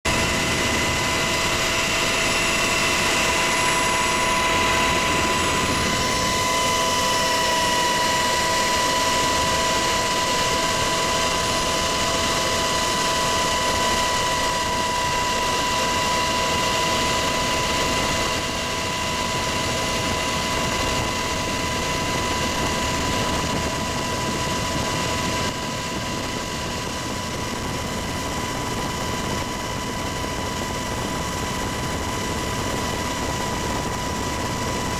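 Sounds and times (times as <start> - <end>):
helicopter rotor and turbine noise: 0.0 - 34.9
high-pitched whine: 0.1 - 34.9.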